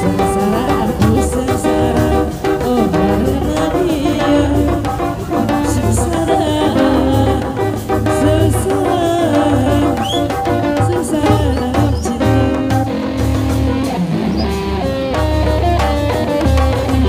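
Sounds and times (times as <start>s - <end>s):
heavy drumming: 0.0s - 17.0s
person singing: 0.0s - 17.0s
wavering melody line: 0.0s - 17.0s.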